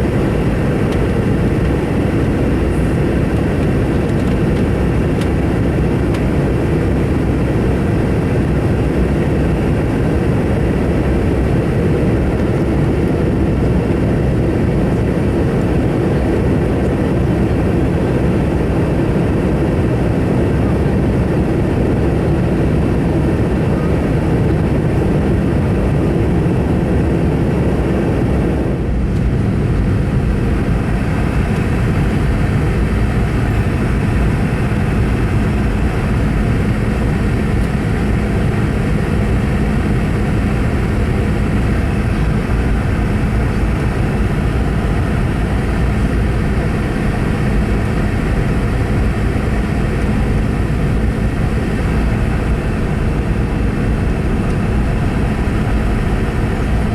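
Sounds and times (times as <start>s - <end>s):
airliner cabin engine rush: 0.0s - 56.9s.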